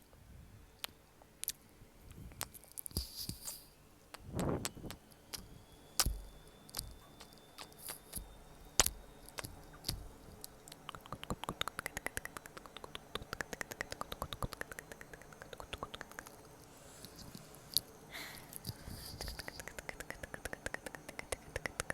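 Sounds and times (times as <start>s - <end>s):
sharp clicking: 2.4s - 17.9s, 18.5s - 21.9s.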